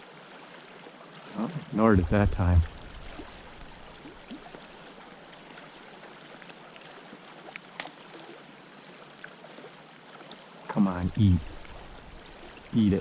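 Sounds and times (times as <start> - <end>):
creek running: 0.0 - 13.0.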